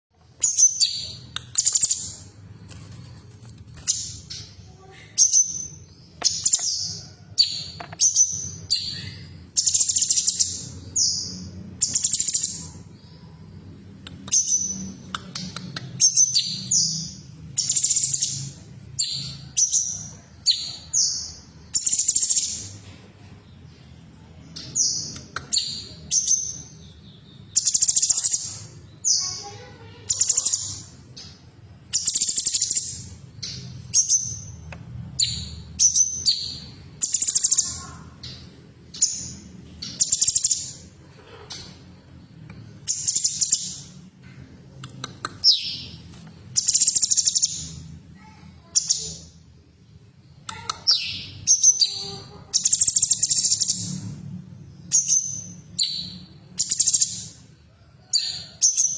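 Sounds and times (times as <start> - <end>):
bird chirping: 0.1 - 58.9.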